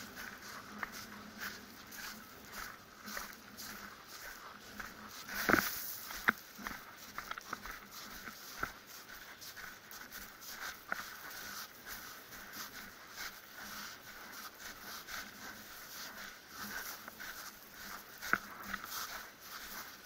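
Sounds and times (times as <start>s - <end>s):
footsteps crunching on cinder: 0.0s - 20.0s
steady hiss: 0.0s - 20.0s.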